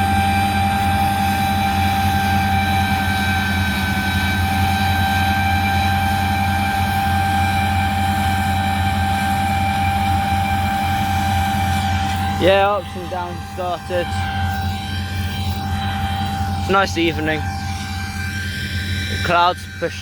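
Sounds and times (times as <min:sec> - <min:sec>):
vehicle engine running steadily: 0:00.0 - 0:20.0.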